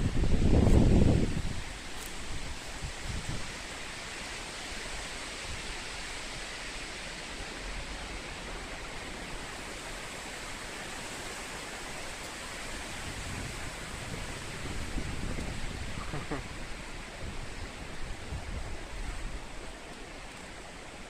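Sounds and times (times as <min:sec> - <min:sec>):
wind rumble on microphone: 0:00.0 - 0:21.0
wind rushing through trees: 0:00.0 - 0:21.0.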